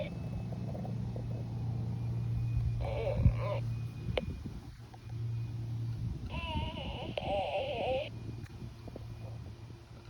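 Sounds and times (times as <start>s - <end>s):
low steady outdoor hum: 0.0s - 10.0s.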